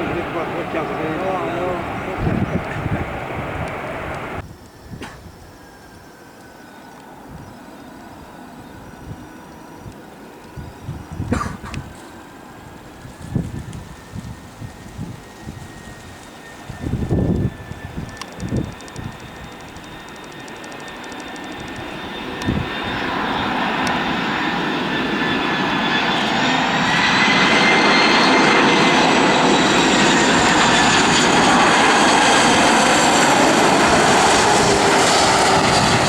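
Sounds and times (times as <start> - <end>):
jet airliner engines roaring: 0.0 - 36.0.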